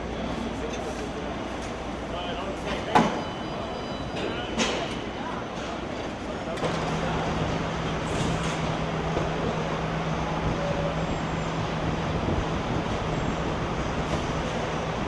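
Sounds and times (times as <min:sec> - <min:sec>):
machinery noise: 0:00.0 - 0:15.0.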